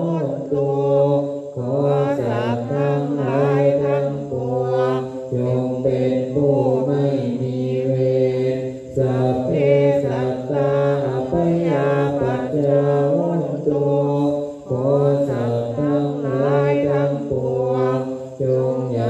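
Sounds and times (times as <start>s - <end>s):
monks chanting in unison: 0.0s - 19.0s.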